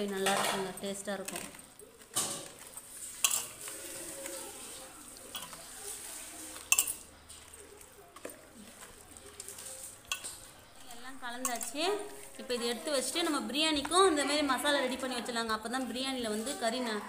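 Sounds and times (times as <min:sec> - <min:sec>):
hand stirring wet marinade: 0:01.3 - 0:17.0.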